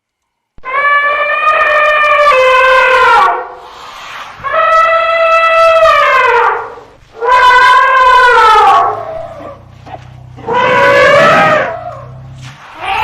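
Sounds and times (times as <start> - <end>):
elephant trumpeting: 0.7 - 3.6, 4.4 - 13.0.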